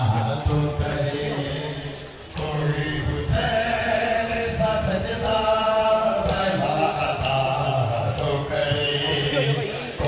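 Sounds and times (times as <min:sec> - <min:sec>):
men chanting a lament: 0:00.0 - 0:10.0.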